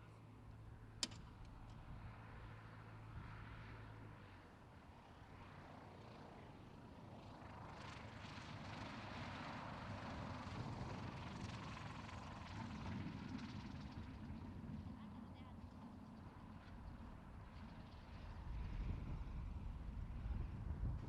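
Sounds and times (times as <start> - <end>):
propeller aircraft engine drone: 0.0 - 21.0.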